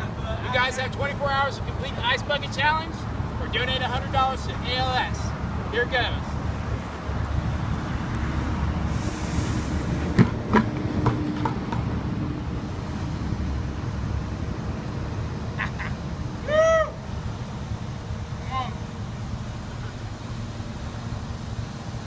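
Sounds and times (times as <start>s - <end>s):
excavator engine rumble: 0.0s - 22.0s.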